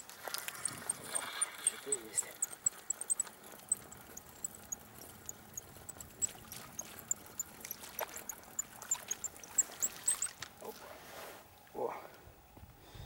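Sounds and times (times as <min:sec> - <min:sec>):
fish splashing at water surface: 0:00.0 - 0:11.1.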